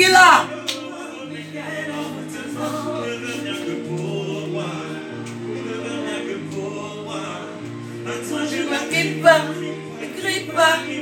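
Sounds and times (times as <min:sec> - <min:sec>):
song with singing: 0:00.0 - 0:11.0
slow bass line: 0:01.3 - 0:11.0.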